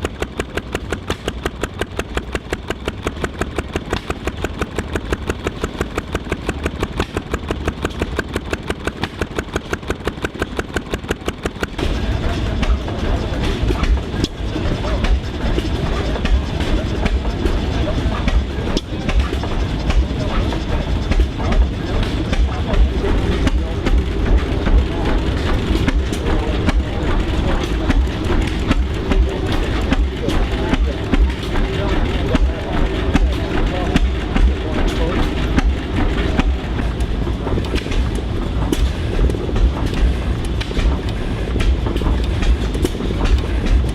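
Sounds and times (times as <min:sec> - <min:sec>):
antique engine running: 0:00.0 - 0:43.9
heavy machinery rumbling: 0:00.0 - 0:43.9
loud continuous noise: 0:00.0 - 0:43.9
machinery clanks and knocks: 0:00.0 - 0:43.9.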